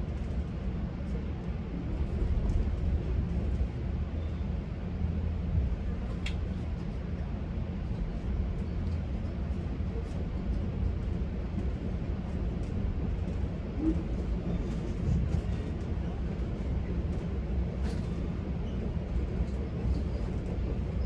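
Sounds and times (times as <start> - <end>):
train coach rumbling on track: 0.0 - 21.0.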